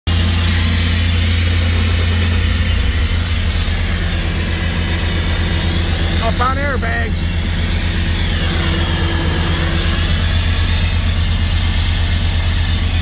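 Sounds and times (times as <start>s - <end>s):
heavy engine droning: 0.1s - 13.0s.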